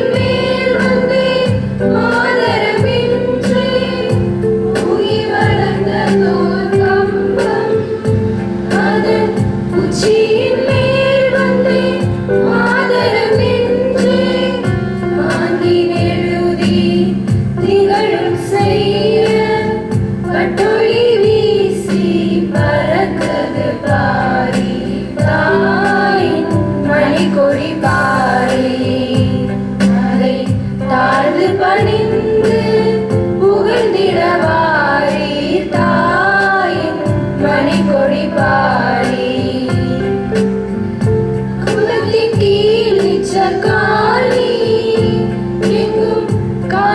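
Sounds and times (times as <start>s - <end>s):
held instrumental chords: 0.0s - 46.9s
women singing in chorus: 0.0s - 46.9s.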